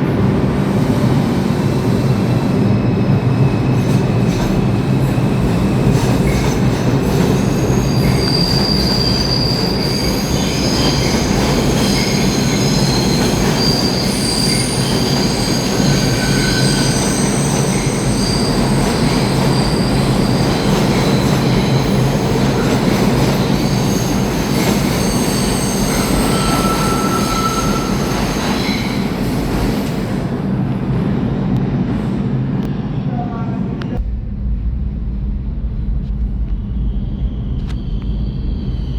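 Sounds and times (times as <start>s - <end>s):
subway train rumbling: 0.0s - 38.9s
wheels squealing on rails: 0.8s - 30.3s, 36.7s - 38.9s.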